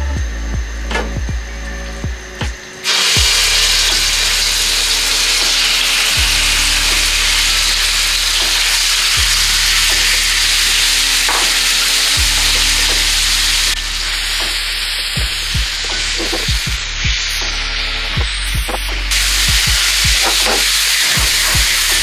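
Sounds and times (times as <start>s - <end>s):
chicken frying in hot oil: 2.8s - 18.5s, 19.1s - 22.0s.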